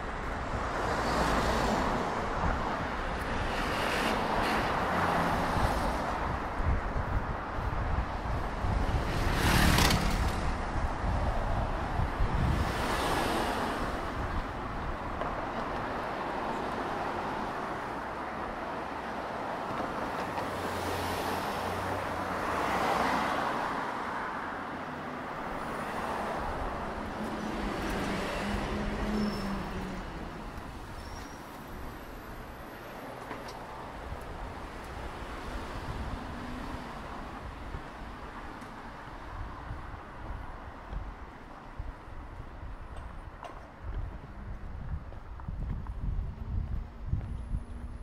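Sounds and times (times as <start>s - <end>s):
cars passing: 0.0s - 48.0s
traffic hum: 0.0s - 48.0s.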